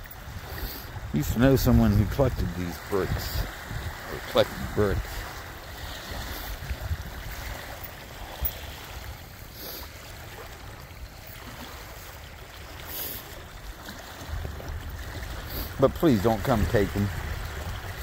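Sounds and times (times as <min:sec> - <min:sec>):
wind rumble on microphone: 0:00.0 - 0:12.2, 0:13.4 - 0:18.0
small waves lapping on gravel: 0:00.0 - 0:18.0.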